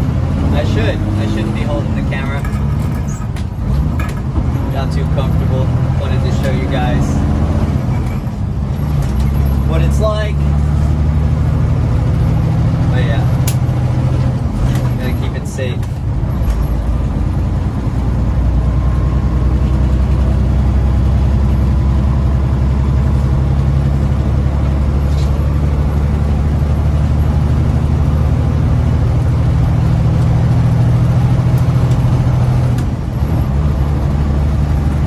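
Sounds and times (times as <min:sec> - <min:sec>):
truck diesel engine drone: 0:00.0 - 0:35.0.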